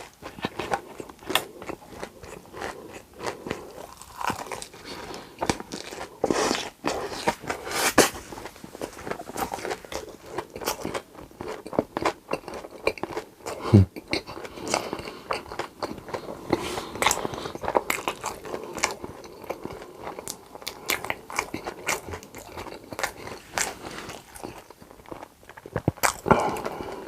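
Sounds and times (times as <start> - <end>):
crunchy bites and wet chewing: 0.0 - 27.0.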